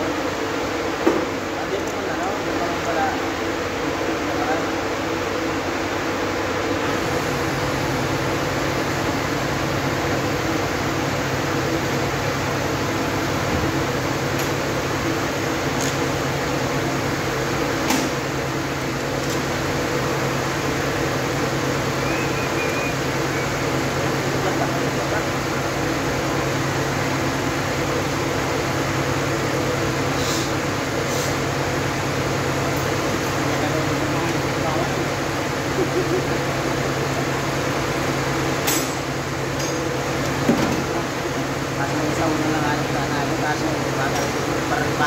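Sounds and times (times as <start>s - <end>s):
mechanical fan hum: 0.0s - 45.0s.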